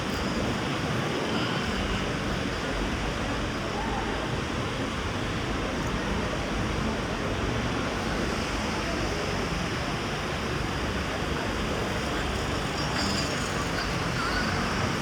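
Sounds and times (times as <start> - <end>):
outdoor ambience: 0.0 - 5.8, 7.8 - 15.0.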